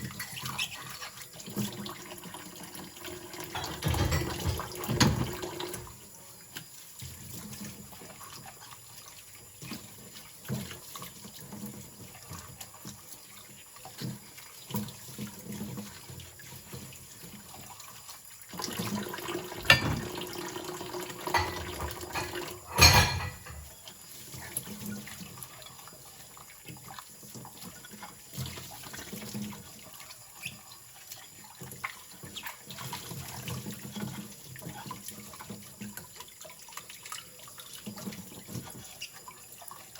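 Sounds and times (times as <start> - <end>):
water splashing in sink: 0.0 - 39.9.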